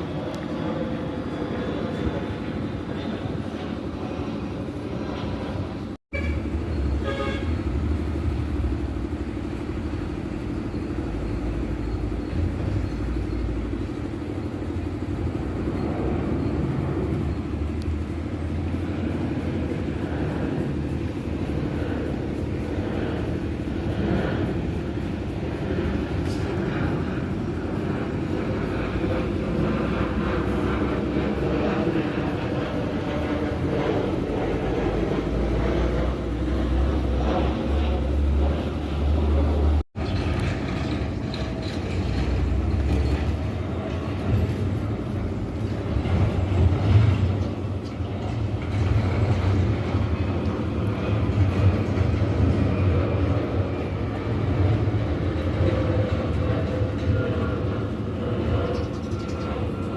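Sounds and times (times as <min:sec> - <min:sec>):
distant engines rumbling: 0:00.0 - 0:59.9
outdoor background noise: 0:00.0 - 0:59.9.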